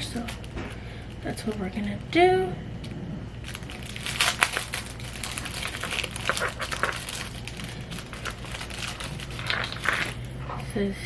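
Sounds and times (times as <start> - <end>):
wrapper crinkling and rustling: 0.0 - 2.1, 3.4 - 10.8.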